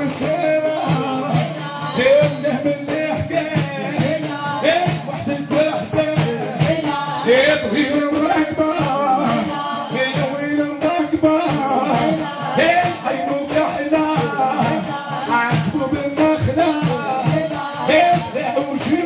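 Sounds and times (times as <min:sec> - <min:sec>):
frame drums beating: 0:00.0 - 0:19.0
man singing into a microphone: 0:00.0 - 0:19.0.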